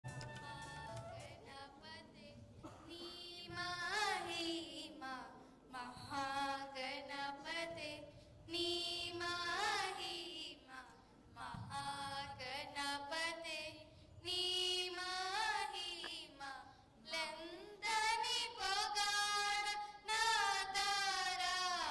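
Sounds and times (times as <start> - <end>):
girls singing into microphones: 0.1 - 21.9.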